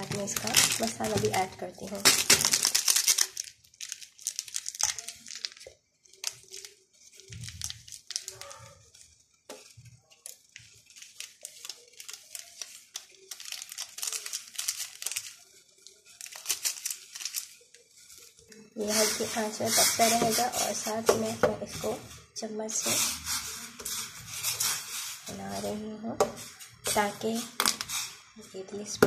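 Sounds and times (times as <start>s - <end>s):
foil sachet crinkling and tearing: 0.0s - 25.8s.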